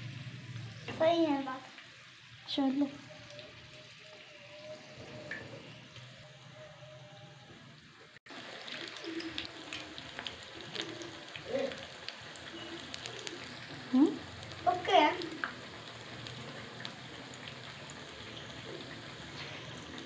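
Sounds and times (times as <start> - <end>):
potato slices sizzling in oil: 0.0 - 20.0
sharp crackles of frying: 0.0 - 20.0.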